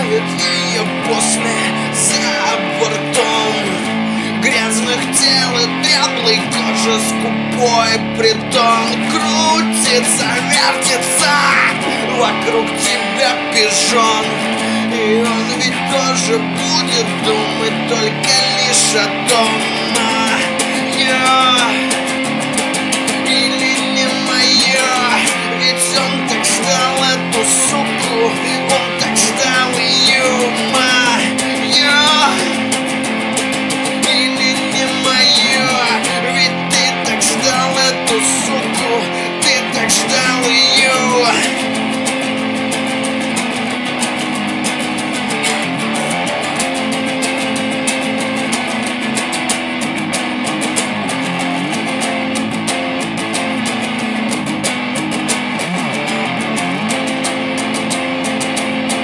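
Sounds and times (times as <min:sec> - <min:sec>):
plucked guitar: 0:00.0 - 0:59.0.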